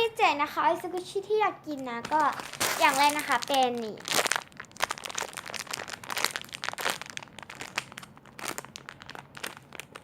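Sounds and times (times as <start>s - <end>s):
plastic packaging crinkling: 1.0s - 10.0s.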